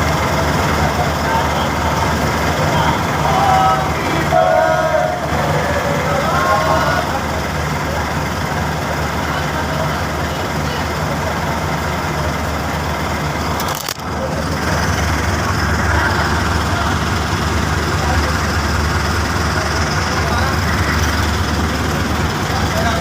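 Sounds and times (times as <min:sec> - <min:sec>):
road noise: 0:00.0 - 0:23.0
vehicle engine humming: 0:00.0 - 0:23.0.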